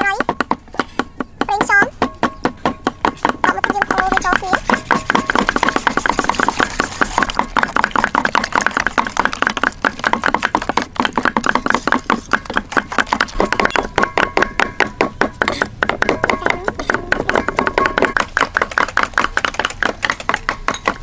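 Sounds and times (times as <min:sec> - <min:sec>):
cleavers chopping on wooden block: 0:00.0 - 0:21.0.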